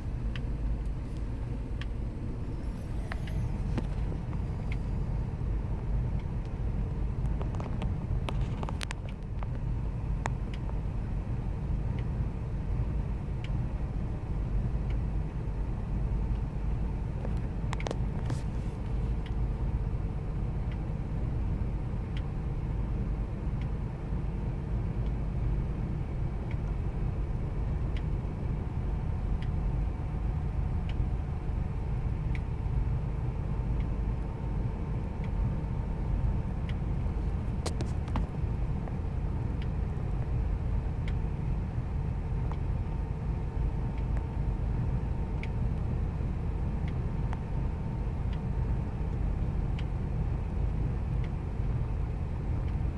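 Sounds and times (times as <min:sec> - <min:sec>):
faint light ticks: 0:00.1 - 0:02.0, 0:05.8 - 0:15.6, 0:16.3 - 0:52.9.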